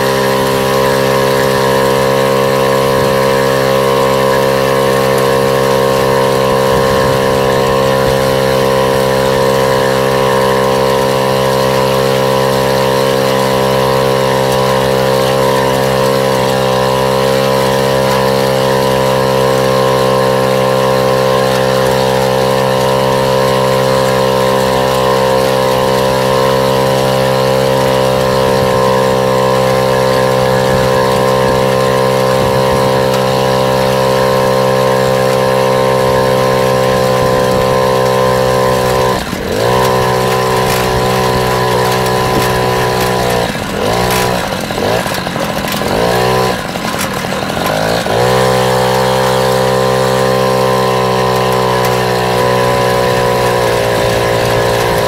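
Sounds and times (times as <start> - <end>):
small engine droning: 0.0 - 55.0.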